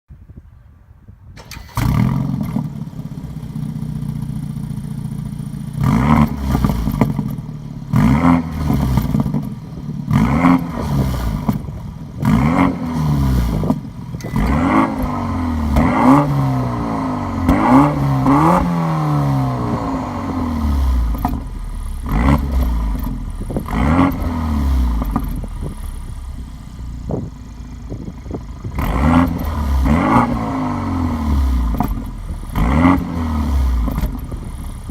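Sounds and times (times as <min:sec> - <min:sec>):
car engine revving: 0:01.4 - 0:34.9.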